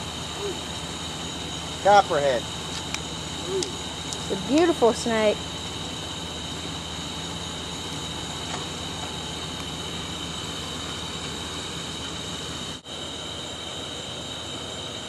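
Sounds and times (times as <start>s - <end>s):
night insects chorus: 0.0s - 15.0s
vehicle engine idling: 0.0s - 15.0s.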